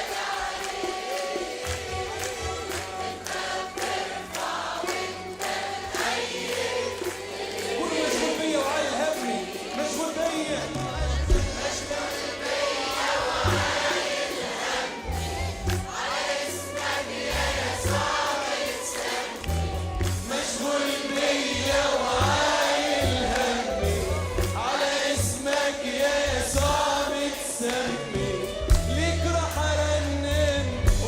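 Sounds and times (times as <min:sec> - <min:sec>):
choir singing worship song: 0:00.0 - 0:31.0
instrumental backing with bass: 0:00.0 - 0:31.0.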